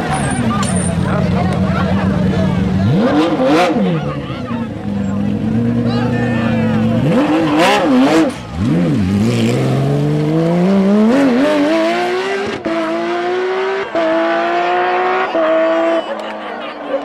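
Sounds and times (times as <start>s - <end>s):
car accelerating hard: 0.0s - 17.0s
rally car engine revving: 0.0s - 17.0s.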